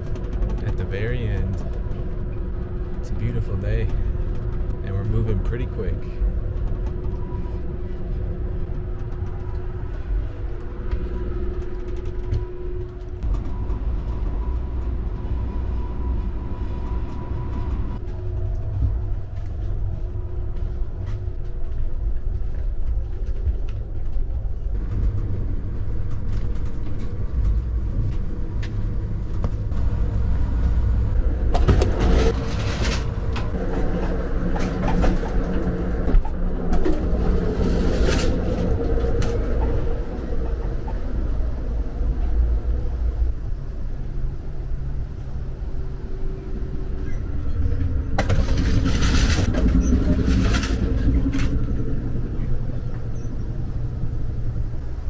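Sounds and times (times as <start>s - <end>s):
rattling and clatter: 0.0s - 15.2s, 17.5s - 43.0s, 46.8s - 54.8s
train wheels rumbling on track: 0.0s - 55.0s.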